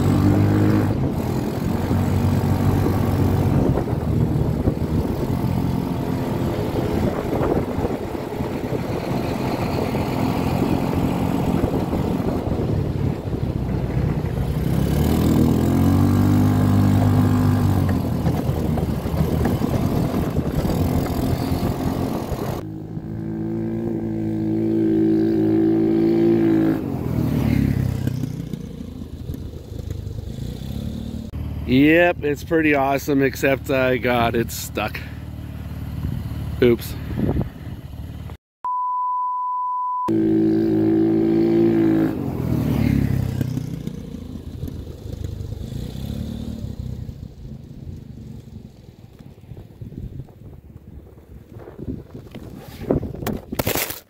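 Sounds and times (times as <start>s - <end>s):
motorcycle engine revving: 0.0s - 38.4s, 40.1s - 50.2s.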